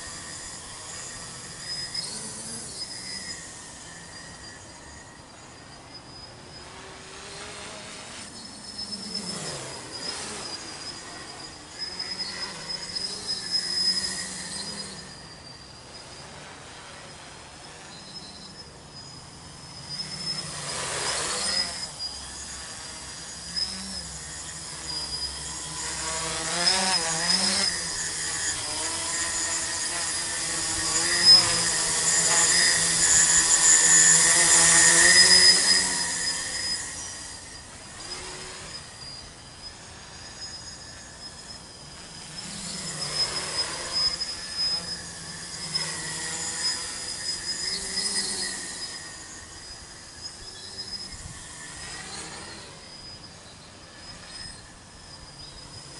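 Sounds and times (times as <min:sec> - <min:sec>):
drone motors whining: 0:00.0 - 0:55.9.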